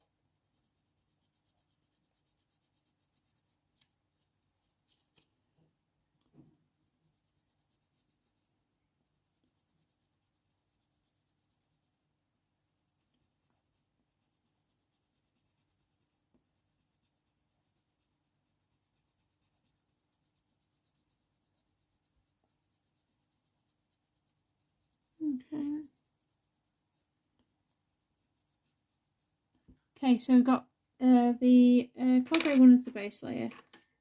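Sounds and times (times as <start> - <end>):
coloured pencil scratching on paper: 0.0 - 5.3, 6.7 - 29.6.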